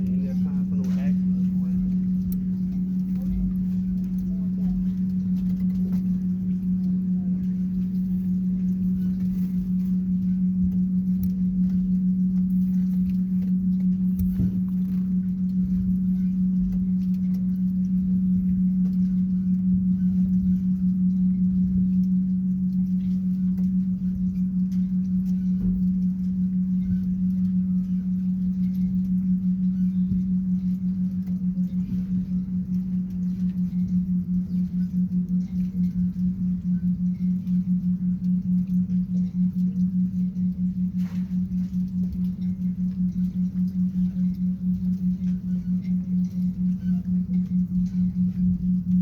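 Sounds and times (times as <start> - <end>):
low rumble: 0.0 - 49.0
steady low hum: 0.0 - 49.0.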